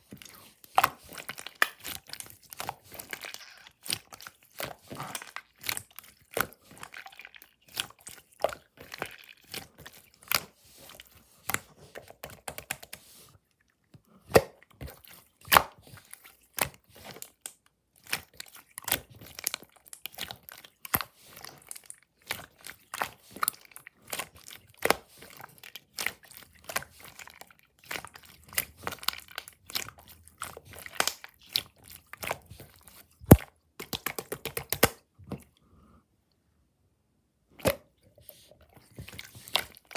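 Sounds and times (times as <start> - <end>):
slime squished by hand: 0.1 - 13.0, 14.3 - 35.0.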